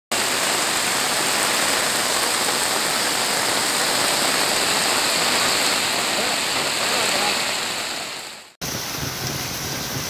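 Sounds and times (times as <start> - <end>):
heavy rain on floodwater: 0.1 - 10.0.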